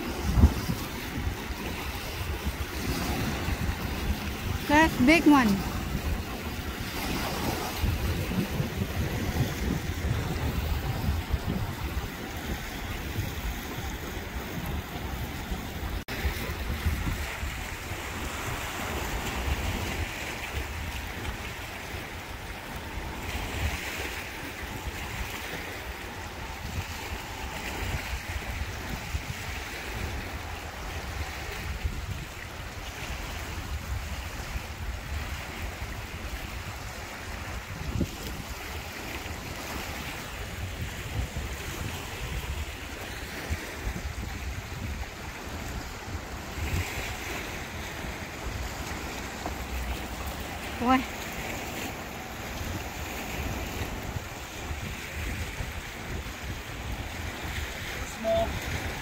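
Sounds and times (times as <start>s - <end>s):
waves lapping on rocky shore: 0.0s - 59.0s
wind buffeting microphone: 0.0s - 59.0s.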